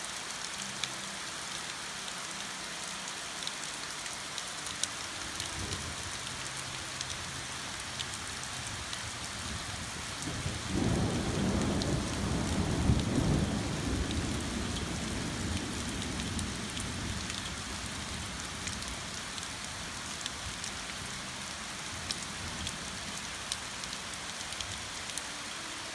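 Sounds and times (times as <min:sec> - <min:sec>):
rain falling on grass: 0:00.0 - 0:25.9.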